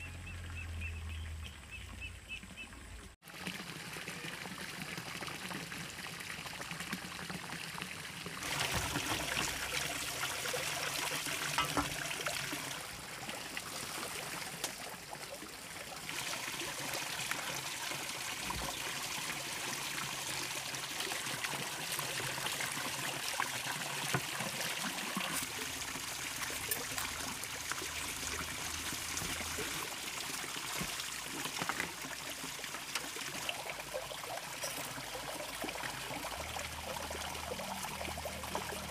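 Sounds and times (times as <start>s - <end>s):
water running and trickling: 1.3s - 38.9s.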